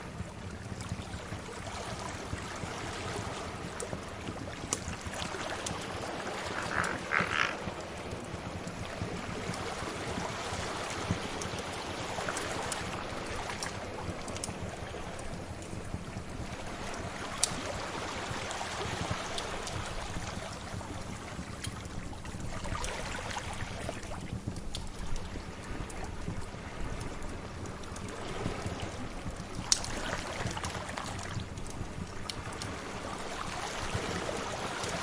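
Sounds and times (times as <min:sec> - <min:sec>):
sea waves washing: 0:00.1 - 0:21.6, 0:25.4 - 0:35.0
fire popping and crackling: 0:00.2 - 0:23.0, 0:23.7 - 0:35.0.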